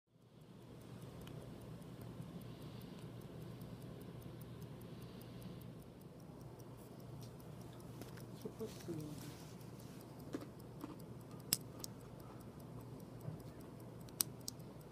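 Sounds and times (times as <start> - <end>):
wristwatch ticking: 0.1 - 14.9.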